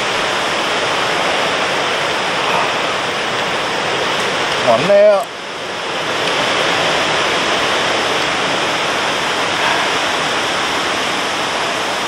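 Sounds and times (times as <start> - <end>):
strong wind through trees: 0.0 - 12.0.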